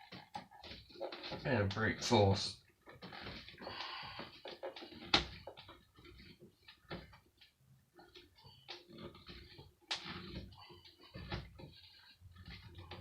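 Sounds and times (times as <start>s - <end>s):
small clicks and scrapes: 0.0s - 13.0s.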